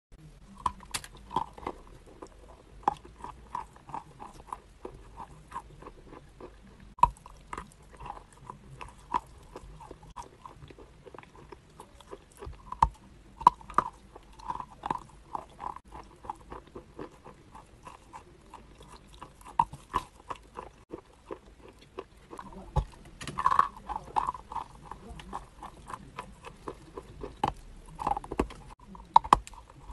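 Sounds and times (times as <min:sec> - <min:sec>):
chewing and crunching chalk: 0:00.5 - 0:29.9.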